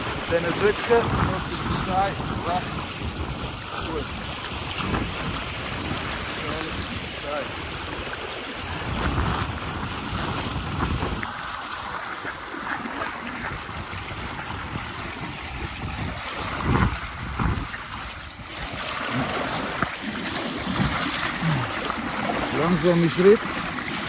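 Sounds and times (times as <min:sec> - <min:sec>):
river rushing: 0:00.0 - 0:24.0
wind buffeting microphone: 0:00.0 - 0:24.0.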